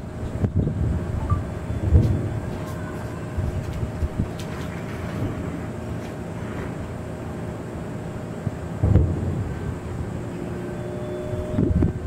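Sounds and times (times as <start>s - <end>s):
distant fireworks rumble: 0.0s - 12.0s.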